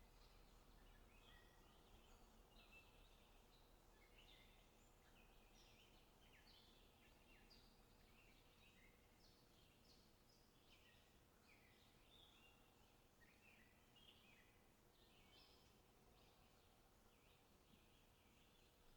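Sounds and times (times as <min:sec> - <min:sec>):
low steady background hiss: 0:00.0 - 0:18.9.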